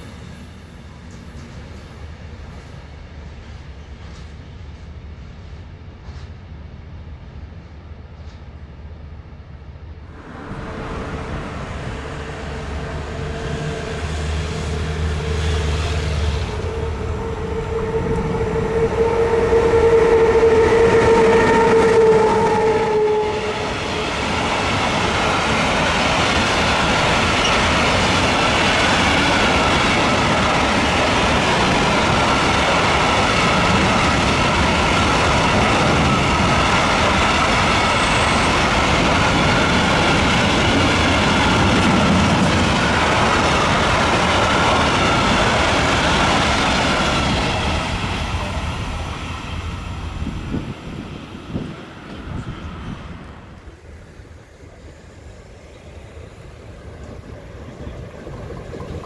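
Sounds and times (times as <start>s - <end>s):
electric locomotive whine: 9.9s - 59.0s.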